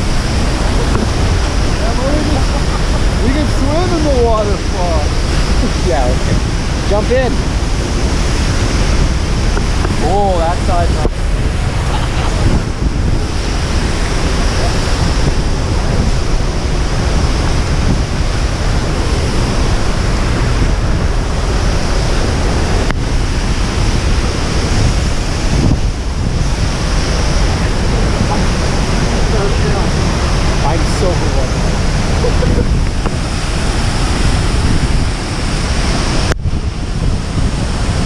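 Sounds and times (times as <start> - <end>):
waterfall rushing: 0.0 - 38.0
wind buffeting microphone: 0.0 - 38.0.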